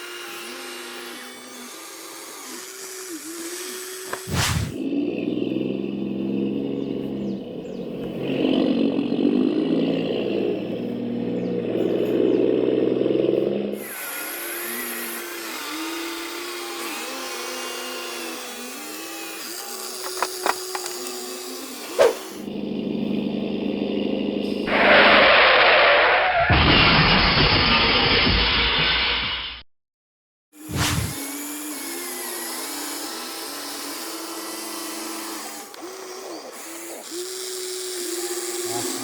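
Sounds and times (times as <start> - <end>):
small electric motors whining: 0.0 - 25.2, 30.6 - 39.0.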